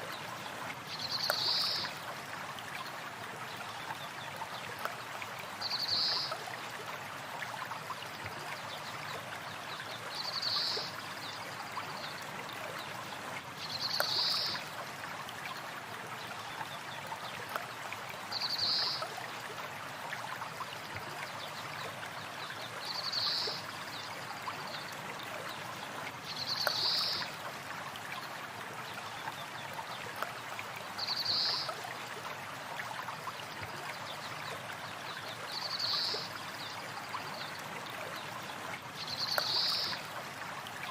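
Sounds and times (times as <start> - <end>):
stream water running: 0.0 - 40.9.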